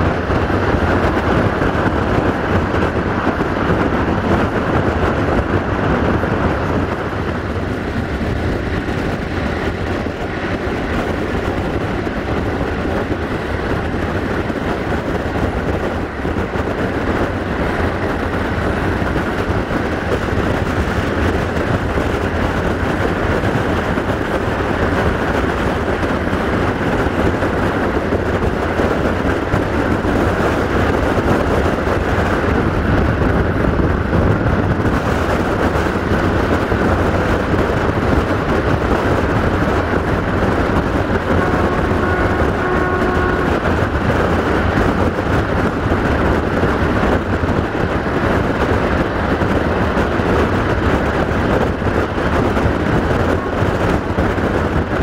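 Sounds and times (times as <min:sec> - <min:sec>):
rushing wind: 0:00.0 - 0:55.0
train wheels rumbling on rails: 0:00.0 - 0:55.0.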